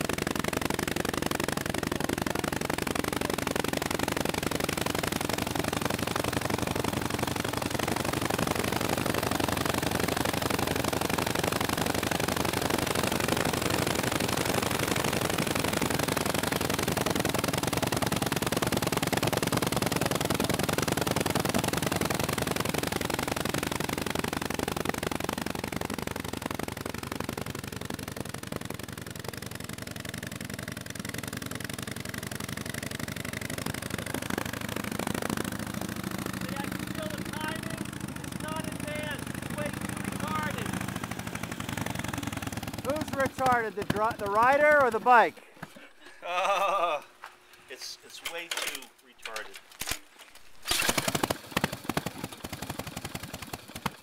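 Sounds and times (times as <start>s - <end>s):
motorcycle engine running: 0.0s - 45.7s, 50.7s - 54.0s.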